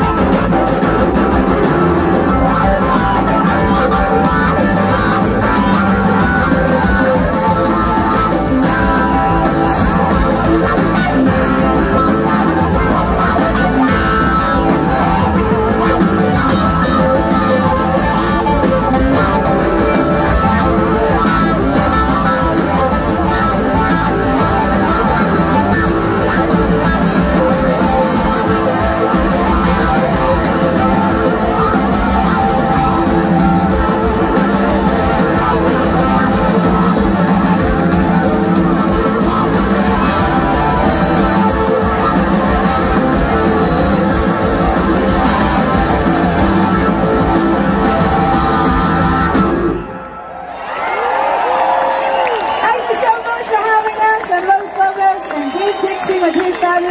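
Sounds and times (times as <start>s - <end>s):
electric guitar: 0.0s - 50.2s
live rock band playing: 0.0s - 50.2s, 50.8s - 56.9s.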